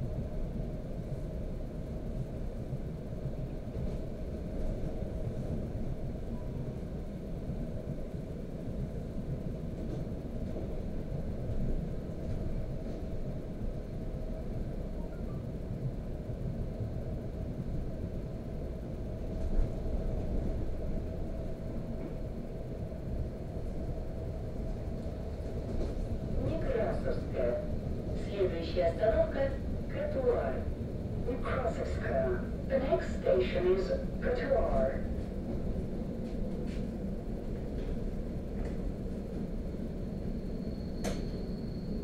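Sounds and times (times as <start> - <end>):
train carriage rumble: 0.0 - 42.0.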